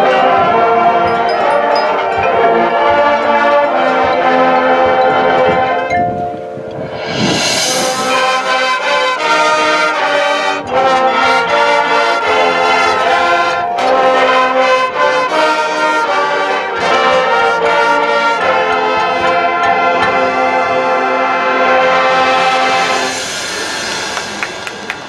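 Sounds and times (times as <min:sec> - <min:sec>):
brass band playing held chords: 0:00.0 - 0:25.0.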